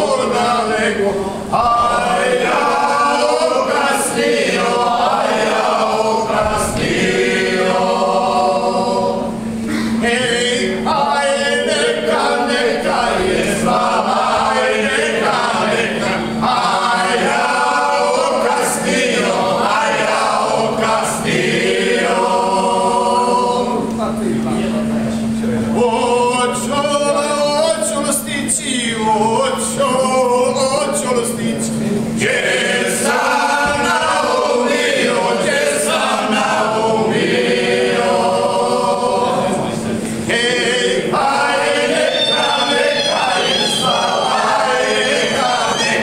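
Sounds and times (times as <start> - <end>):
group singing unaccompanied: 0.0 - 24.1, 25.6 - 46.0.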